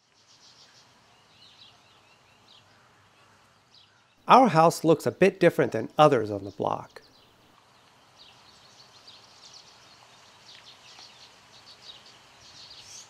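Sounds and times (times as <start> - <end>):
outdoor background hiss: 0.0 - 13.0
birds chirping: 0.1 - 13.0.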